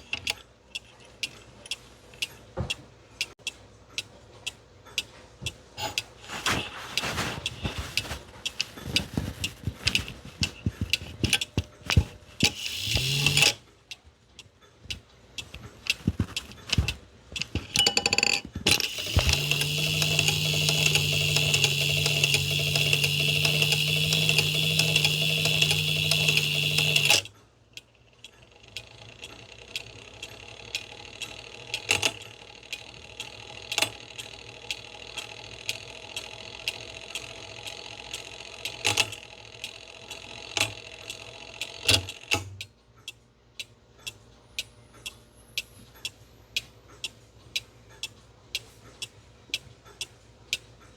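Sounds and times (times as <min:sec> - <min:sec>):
clock mechanism whirring: 0:00.0 - 0:14.0, 0:14.9 - 0:42.6
clock mechanism fast clicking: 0:00.0 - 0:50.7
clock ticking: 0:00.0 - 0:50.9.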